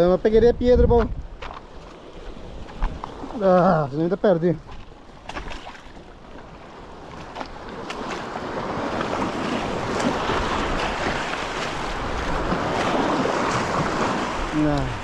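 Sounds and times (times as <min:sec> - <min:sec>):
wind buffeting microphone: 0:00.0 - 0:03.4, 0:06.2 - 0:15.0
surf washing against rocks: 0:01.5 - 0:15.0.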